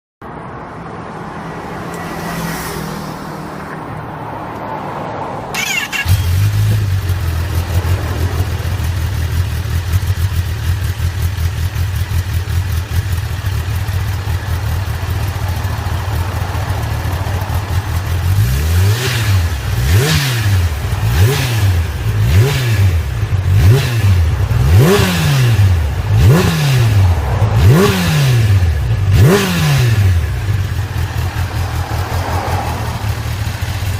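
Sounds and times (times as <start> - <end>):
motorcycle engine idling and revving: 0.2 - 33.9.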